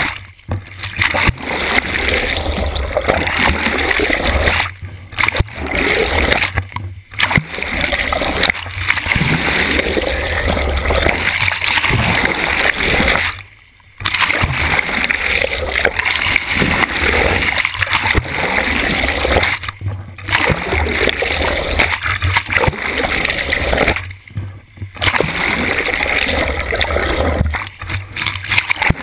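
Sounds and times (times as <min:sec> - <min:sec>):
water rushing and splashing: 0:00.0 - 0:29.0.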